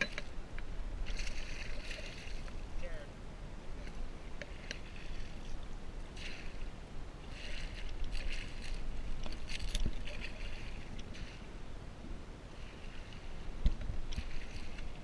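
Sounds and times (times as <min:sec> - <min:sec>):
steady low rumble: 0:00.0 - 0:15.0
water splashing: 0:01.0 - 0:03.1, 0:03.7 - 0:11.7, 0:12.5 - 0:15.0.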